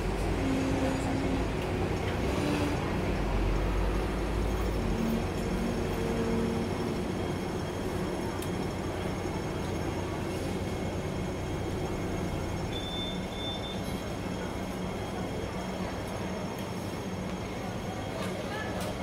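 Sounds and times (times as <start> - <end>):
tram wheels rumbling on rails: 0.0 - 19.0.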